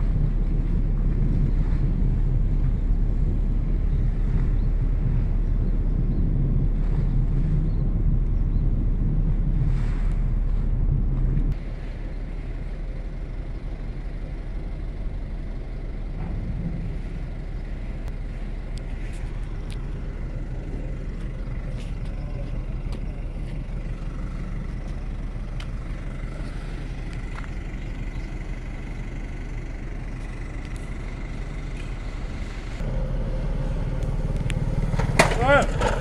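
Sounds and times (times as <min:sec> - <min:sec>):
engines idling: 0:00.0 - 0:08.1, 0:11.5 - 0:36.0
wind buffeting microphone: 0:00.0 - 0:36.0.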